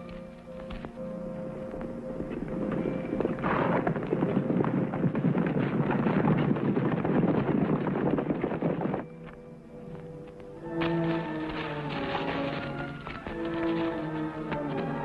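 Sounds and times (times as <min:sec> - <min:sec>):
horses galloping hoofbeats: 0:01.6 - 0:15.0.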